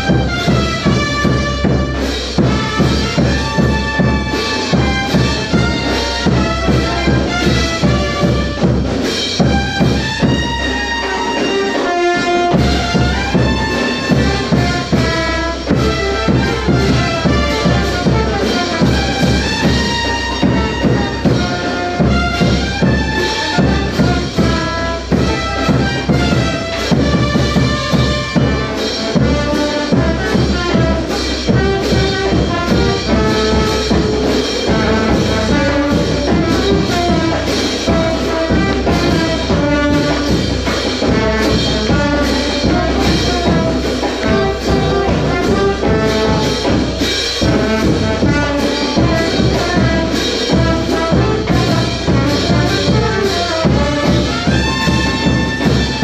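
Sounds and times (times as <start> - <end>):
brass band playing: 0.0 - 56.0
drums keeping steady beat: 0.0 - 56.0.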